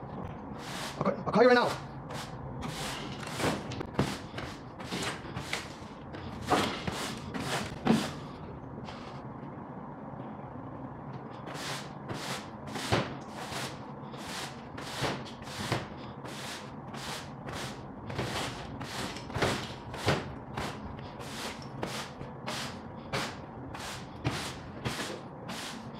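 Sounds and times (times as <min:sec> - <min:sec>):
broom sweeping: 0:00.6 - 0:01.0, 0:01.7 - 0:09.2, 0:11.4 - 0:25.9.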